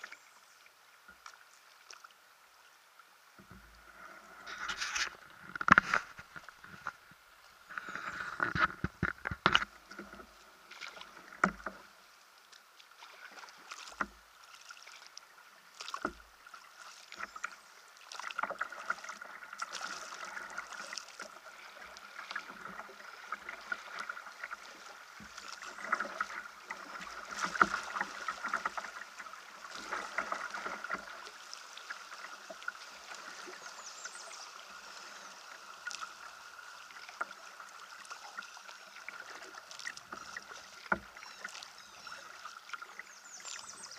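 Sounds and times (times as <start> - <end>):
water splashing along a hull: 0.0 - 43.9.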